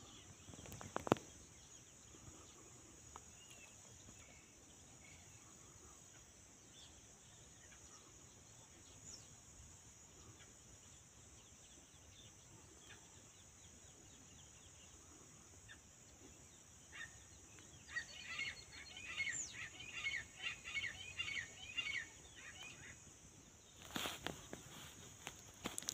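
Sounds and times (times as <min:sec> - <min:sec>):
bird calls: 0:00.0 - 0:09.5, 0:10.1 - 0:25.9.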